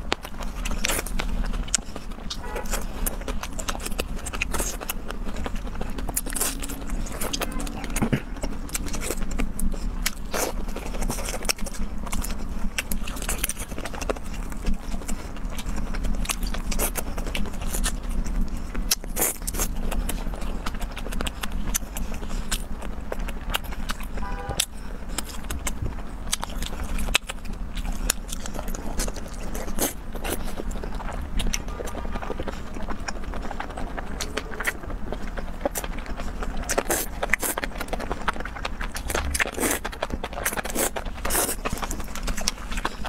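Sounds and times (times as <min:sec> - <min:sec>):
chewing and mouth noises: 0:00.0 - 0:43.0
steady low hum: 0:00.0 - 0:43.0.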